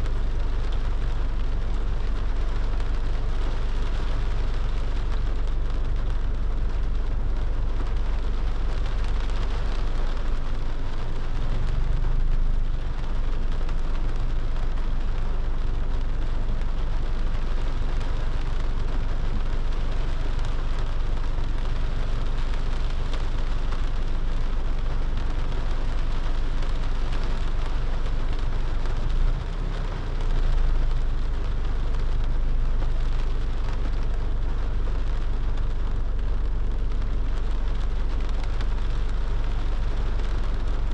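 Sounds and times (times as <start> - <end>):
constant low rumble: 0.0 - 40.9
rain falling on a car: 0.0 - 40.9.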